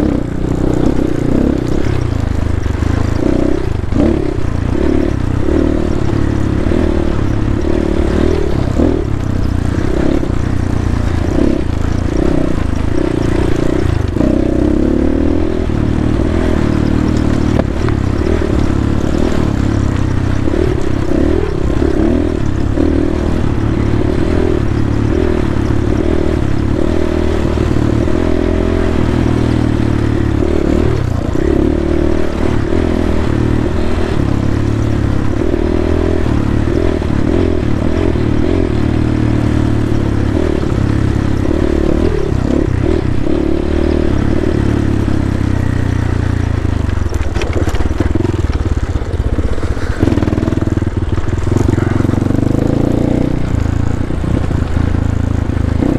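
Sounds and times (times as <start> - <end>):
dirt bike engine revving: 0.0 - 55.9
bike clattering over rough ground: 0.1 - 55.9.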